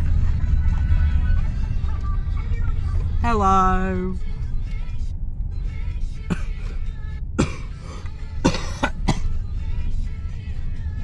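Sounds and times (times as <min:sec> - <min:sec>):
car interior rumble: 0:00.0 - 0:11.0
faint music: 0:00.0 - 0:11.0.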